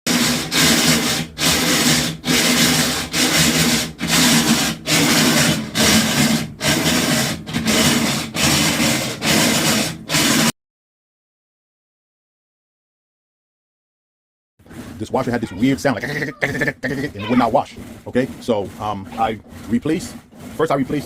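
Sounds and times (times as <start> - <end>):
washing machine grinding: 0.0 - 10.5, 14.6 - 21.0.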